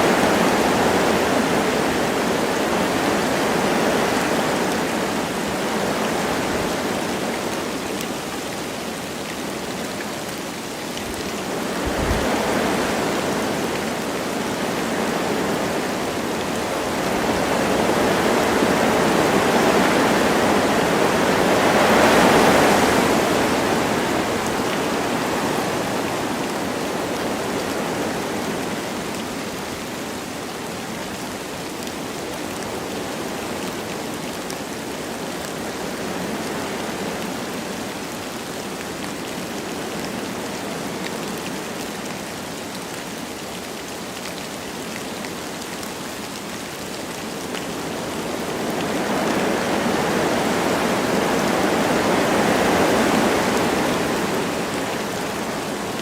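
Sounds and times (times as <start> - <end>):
light rain falling: 0.0 - 56.0
wind gusting through trees: 0.0 - 56.0.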